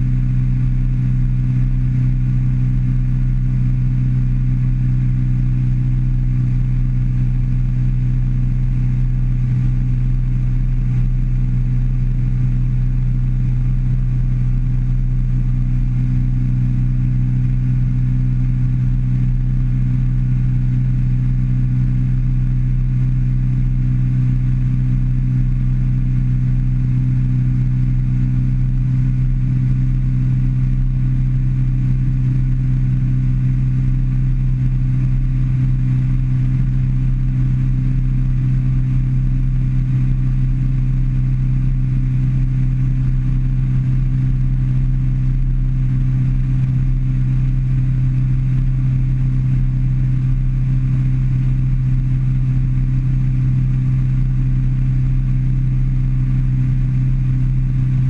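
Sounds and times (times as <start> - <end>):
outboard motor droning: 0.0 - 58.0.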